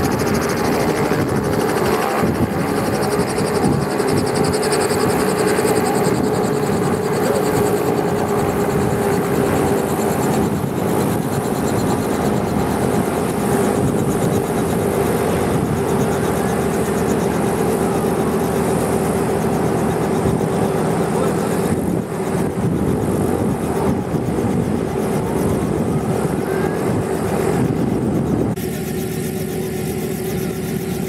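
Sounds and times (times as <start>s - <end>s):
helicopter engine whine: 0.0s - 31.0s
helicopter rotor beat: 0.0s - 31.0s.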